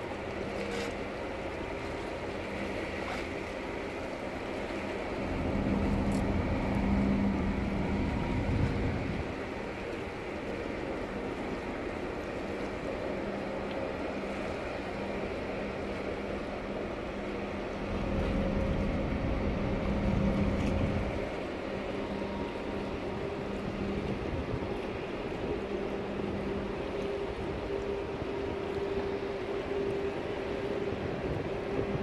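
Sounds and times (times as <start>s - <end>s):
ship machinery hum and rumble: 0.0s - 32.0s
water wash: 0.0s - 32.0s
wind: 0.0s - 32.0s.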